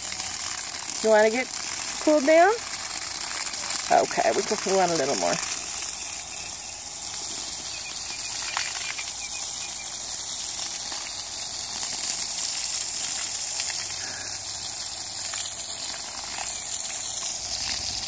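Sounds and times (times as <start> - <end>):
garden hose spraying water: 0.0 - 18.0
water splashing: 0.0 - 18.0.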